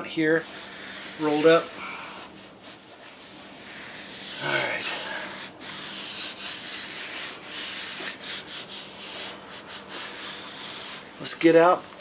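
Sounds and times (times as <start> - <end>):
palms rubbing over plastic sheet: 0.0 - 12.0.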